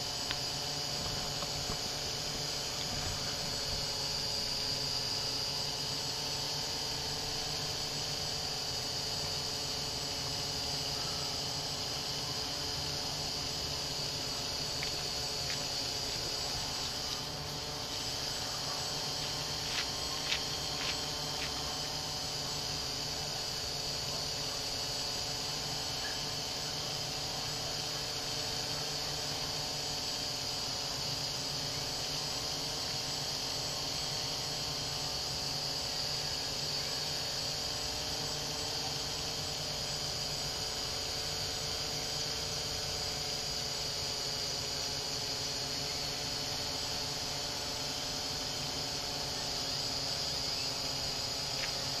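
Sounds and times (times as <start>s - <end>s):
drone motors and propellers buzzing: 0.0s - 52.0s.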